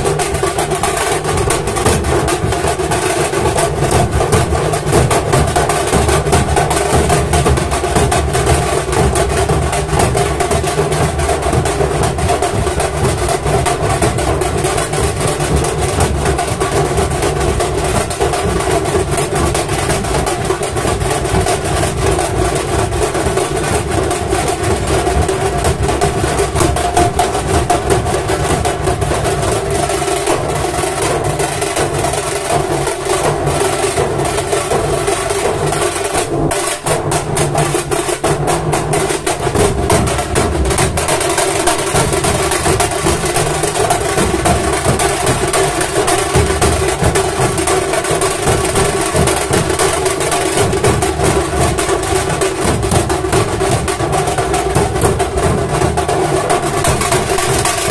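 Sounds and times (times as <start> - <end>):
drums beating a dense rhythm: 0.0 - 57.9.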